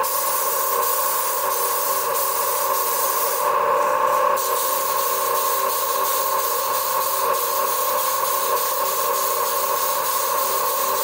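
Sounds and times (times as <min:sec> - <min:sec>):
hissing rush of gas: 0:00.0 - 0:10.8.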